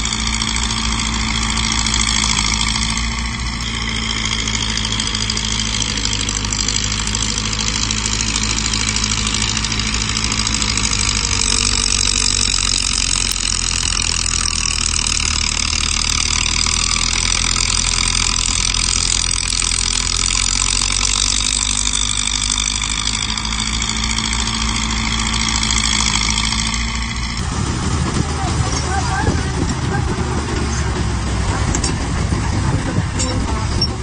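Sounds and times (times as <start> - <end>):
high whine: 0.0 - 19.2, 20.6 - 34.0
heavy diesel engine running: 0.0 - 34.0.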